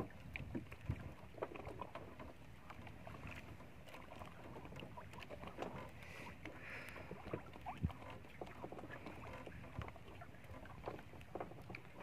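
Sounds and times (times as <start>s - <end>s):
knocks and clicks from boat: 0.0s - 12.0s
water lapping against boat hull: 0.0s - 12.0s.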